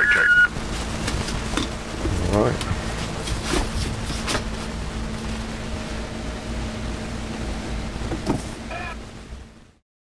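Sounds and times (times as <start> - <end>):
low electrical hum: 0.0 - 9.8.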